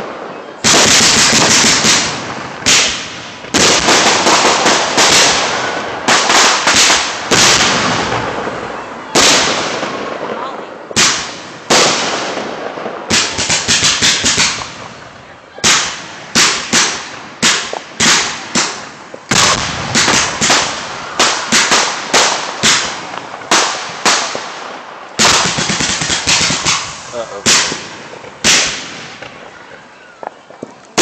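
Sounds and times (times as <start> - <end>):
fireworks bursting with sharp bangs: 0.0 - 31.0.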